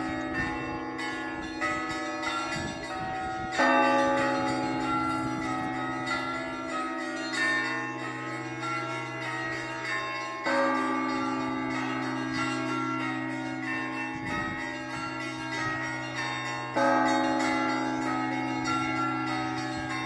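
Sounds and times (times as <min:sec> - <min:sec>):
large bell humming: 0:00.0 - 0:20.0
small church bells chiming: 0:00.0 - 0:20.0.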